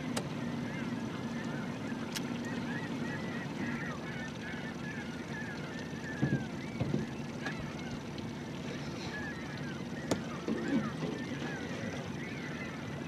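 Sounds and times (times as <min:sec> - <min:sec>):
low steady hum: 0:00.0 - 0:13.0
birds chirping and whistling: 0:00.2 - 0:13.0.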